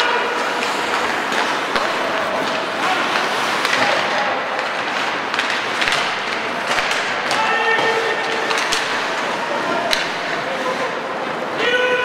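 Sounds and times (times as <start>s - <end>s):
rink hall noise: 0.0s - 12.0s
skates scraping ice: 0.0s - 12.0s
sticks and puck clacking: 0.0s - 12.0s.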